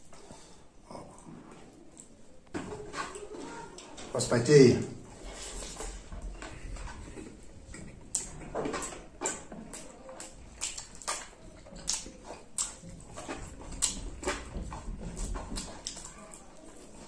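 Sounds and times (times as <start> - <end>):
wet chewing and lip smacks: 1.0 - 4.0, 5.2 - 17.0.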